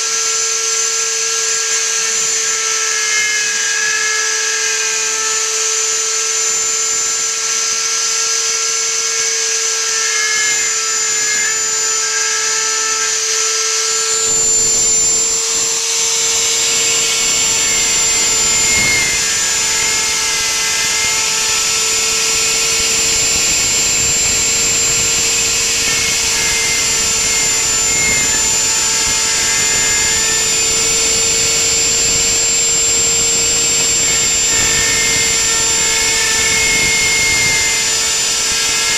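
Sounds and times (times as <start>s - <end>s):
router bit cutting wood: 0.0s - 38.9s
router spindle high whine: 0.0s - 38.9s.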